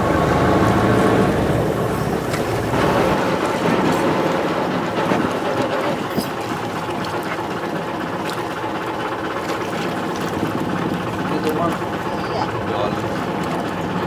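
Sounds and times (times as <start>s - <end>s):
steady rumbling background: 0.0s - 14.0s
water splashing and sloshing: 0.0s - 14.0s.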